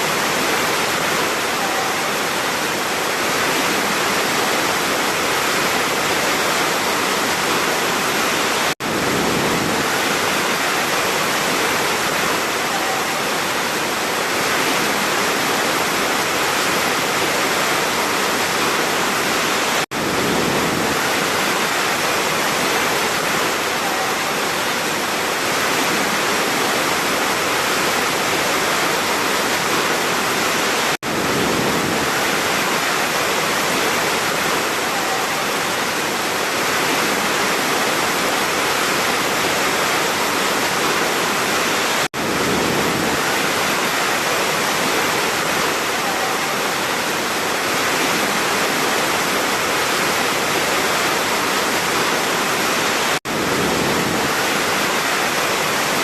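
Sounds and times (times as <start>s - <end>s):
waterfall crashing: 0.0s - 56.0s.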